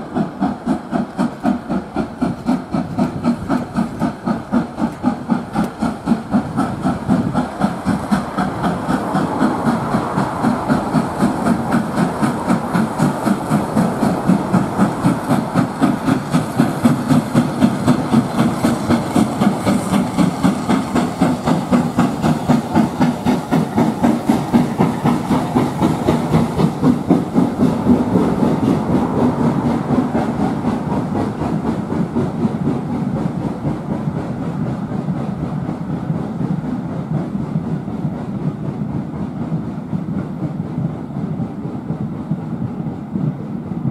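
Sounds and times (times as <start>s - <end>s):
hissing steam: 0.0s - 43.8s
steam locomotive exhaust beat: 0.0s - 43.9s
train wheels on rails: 0.0s - 43.9s.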